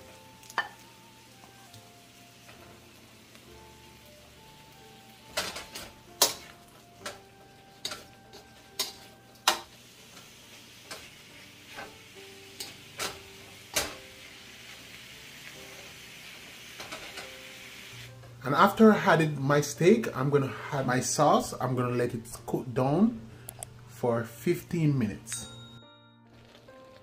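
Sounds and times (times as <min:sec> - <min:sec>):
light sizzle: 0:00.0 - 0:27.0.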